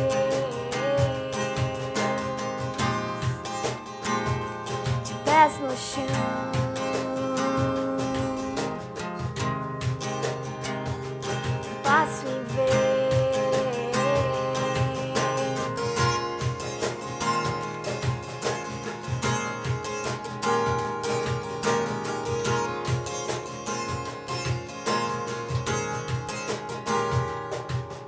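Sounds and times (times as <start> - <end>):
acoustic guitar: 0.0 - 28.0
hand percussion strokes: 0.0 - 28.0.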